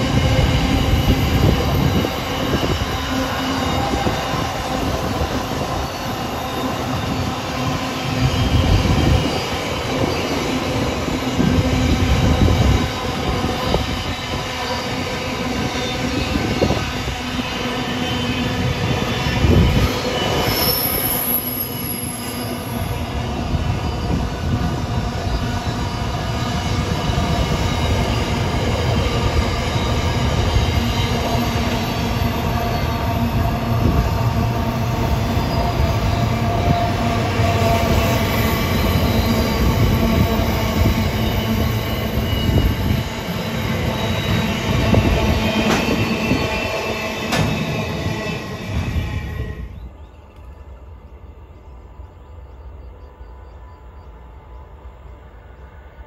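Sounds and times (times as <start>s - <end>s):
train wheels squealing: 0.0s - 56.0s.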